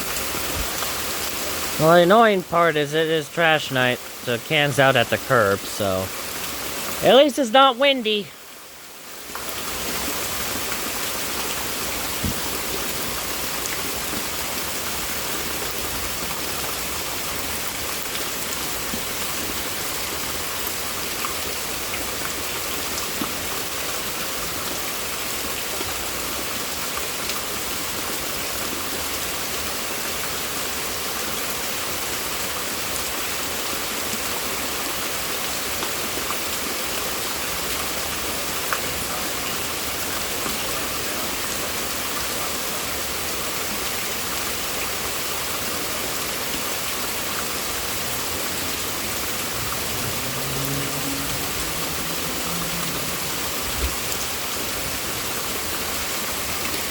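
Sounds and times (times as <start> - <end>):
heavy rain pattering: 0.0 - 56.9.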